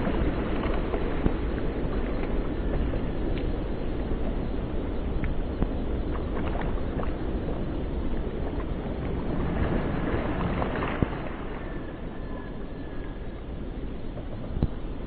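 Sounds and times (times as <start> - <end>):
oars working water: 0.0 - 15.0
wind rumbling on microphone: 0.0 - 15.0.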